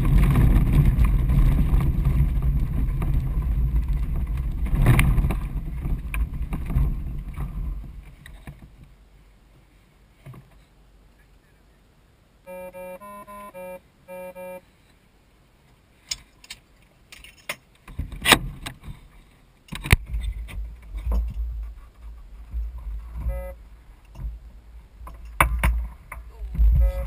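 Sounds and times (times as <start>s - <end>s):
low uneven rumble: 0.0s - 17.1s, 17.8s - 27.0s.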